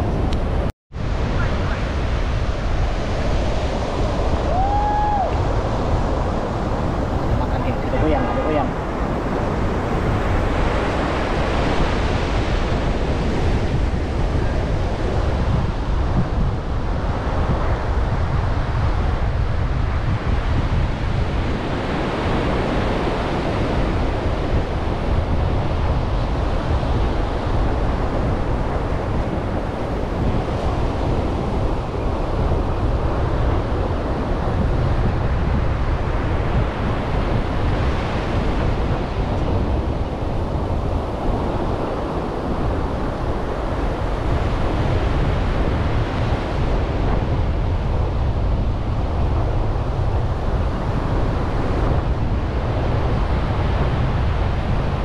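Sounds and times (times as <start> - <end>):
surf breaking on beach: 0.0 - 55.0
wind rumble on microphone: 0.0 - 55.0.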